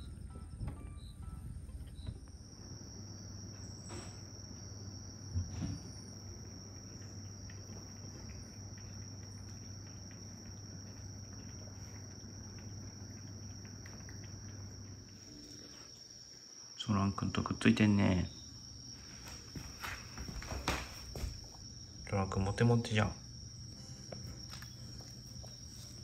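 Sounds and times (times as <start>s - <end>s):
high-pitched insect trill: 0.0s - 26.0s
low steady hum: 0.0s - 26.0s.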